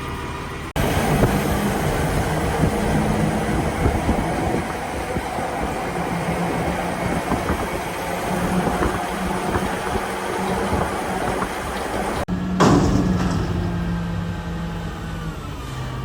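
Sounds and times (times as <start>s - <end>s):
heavy truck engine hum: 0.0s - 16.0s.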